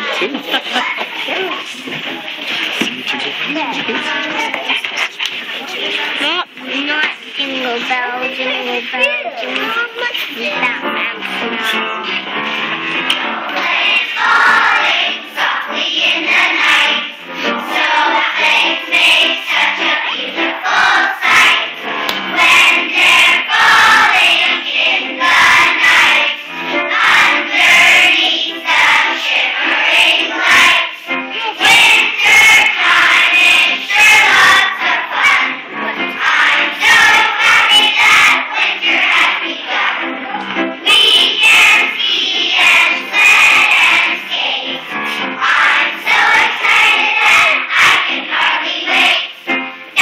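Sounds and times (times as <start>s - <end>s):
children's choir singing: 0.0s - 50.0s.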